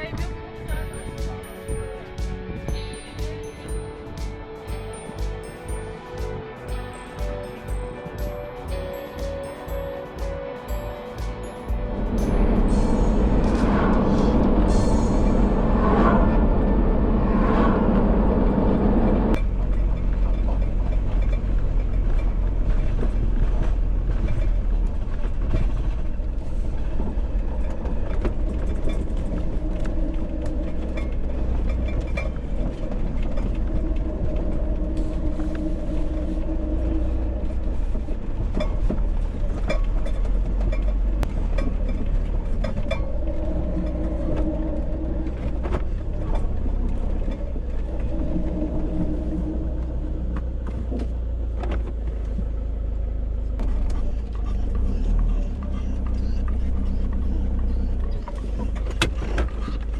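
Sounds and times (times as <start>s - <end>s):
engine and road rumble: 10.3s - 59.9s.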